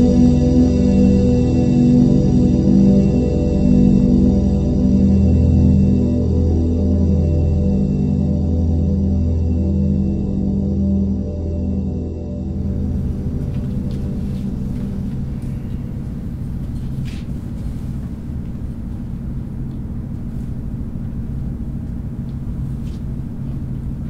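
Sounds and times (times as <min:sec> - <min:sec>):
low hum and rumble: 0:00.0 - 0:24.0.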